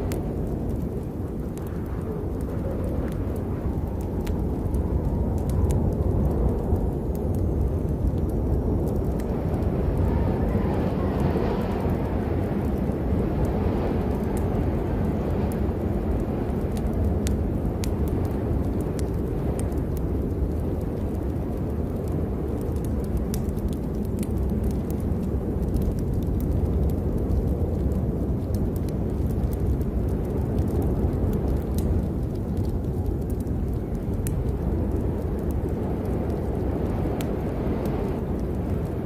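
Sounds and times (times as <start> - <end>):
sharp ticks and pops: 0.0 - 9.9, 11.8 - 39.0
low rumbling noise: 0.0 - 39.0.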